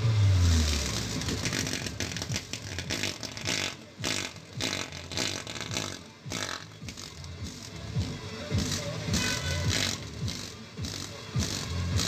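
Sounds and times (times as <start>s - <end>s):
subwoofer deep bass beats: 0.0s - 12.0s.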